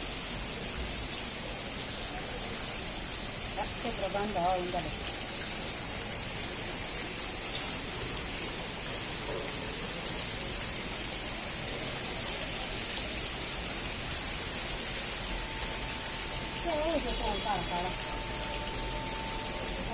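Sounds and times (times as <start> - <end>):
steady rain pattering: 0.0 - 19.9.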